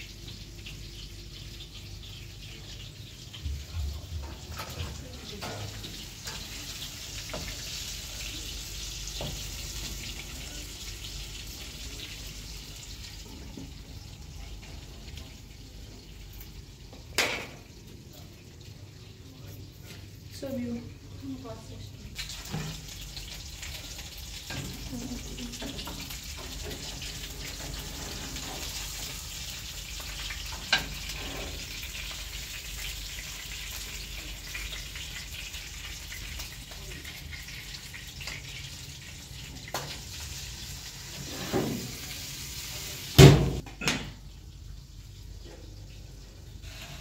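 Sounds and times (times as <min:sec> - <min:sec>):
fish frying in hot oil: 0:00.0 - 0:47.0.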